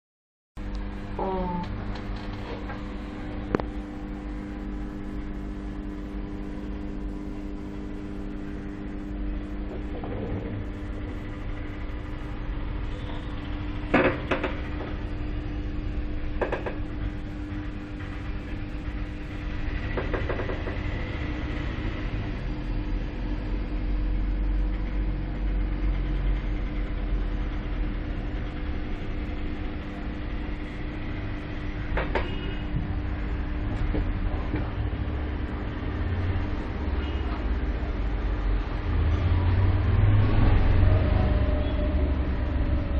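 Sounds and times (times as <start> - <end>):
low hum and rumble: 0.6 - 42.9.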